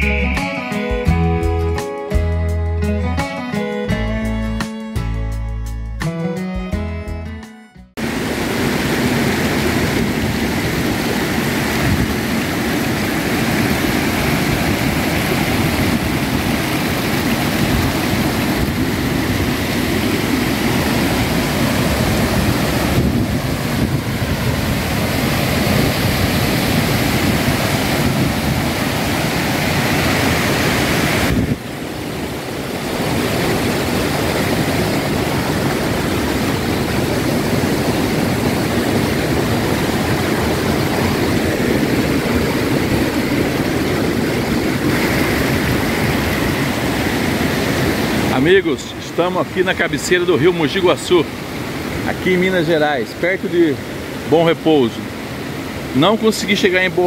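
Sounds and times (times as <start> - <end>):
river rapids rushing over rocks: 8.0 - 57.0.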